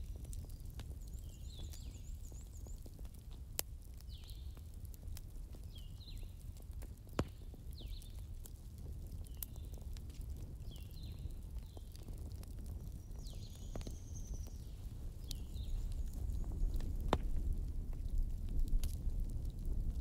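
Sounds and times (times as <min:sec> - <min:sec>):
small birds chirping: 0:00.0 - 0:17.4
wood fire crackling: 0:00.0 - 0:20.0.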